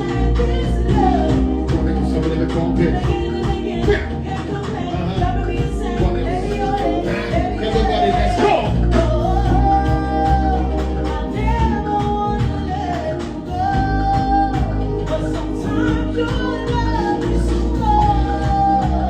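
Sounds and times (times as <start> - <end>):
live band music: 0.0 - 19.0.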